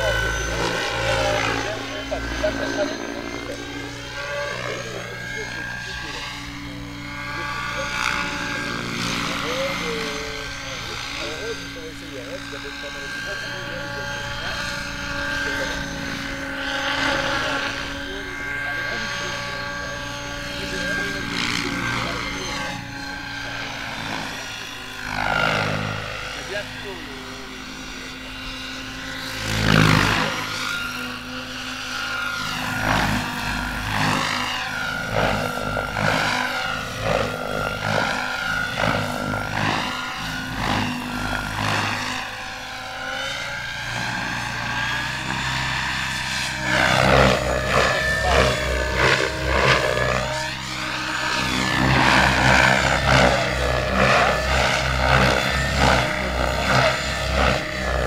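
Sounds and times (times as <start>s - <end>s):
model helicopter rotor whine: 0.0s - 58.0s.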